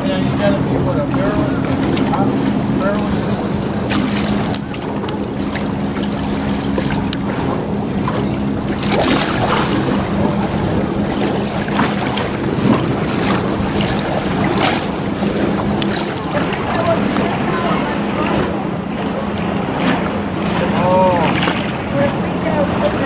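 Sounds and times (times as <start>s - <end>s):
low engine hum: 0.0s - 23.0s
wind buffeting microphone: 0.0s - 23.0s.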